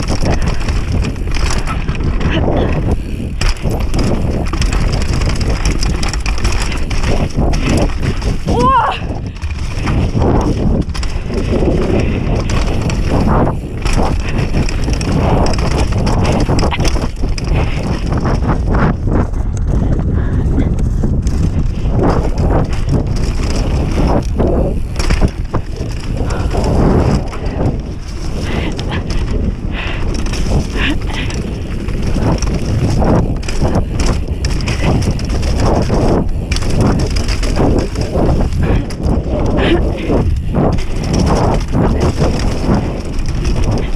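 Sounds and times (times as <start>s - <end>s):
bike knocking and rattling: 0.0s - 43.9s
bike tyres rumbling on dirt: 0.0s - 43.9s
wind buffeting microphone: 0.0s - 43.9s.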